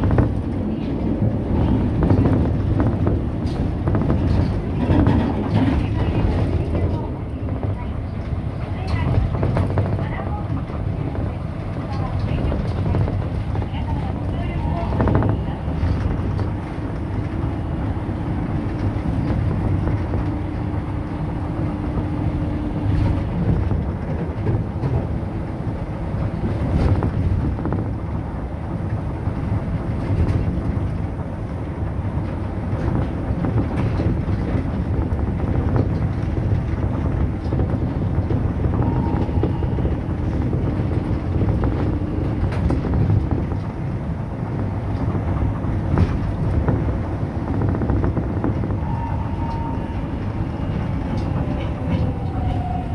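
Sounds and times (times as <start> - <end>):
train cabin low rumble: 0.0 - 52.9.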